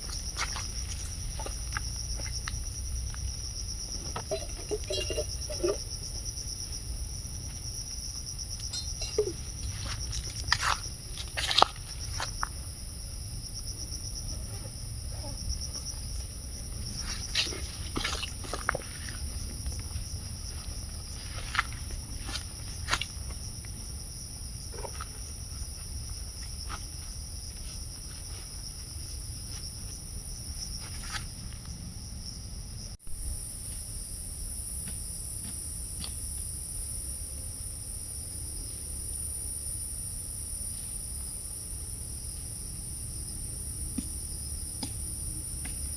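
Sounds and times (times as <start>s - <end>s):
insects chorus: 0.0s - 45.9s.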